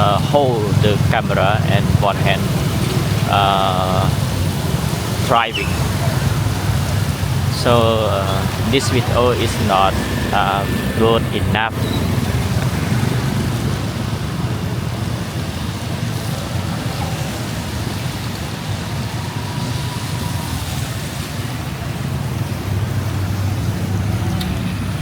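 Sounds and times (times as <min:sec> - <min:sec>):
heavy rain: 0:00.0 - 0:25.0
motorbike engine hum: 0:00.0 - 0:25.0
traffic: 0:00.0 - 0:25.0
tyres on wet road: 0:00.0 - 0:25.0.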